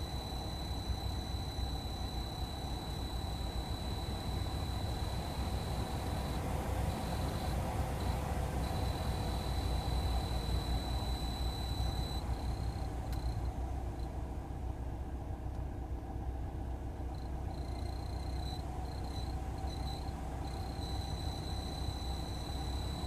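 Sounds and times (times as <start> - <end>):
high-pitched fan whistle: 0.0 - 13.4, 17.8 - 23.0
blower hum and idling engine: 0.0 - 23.0.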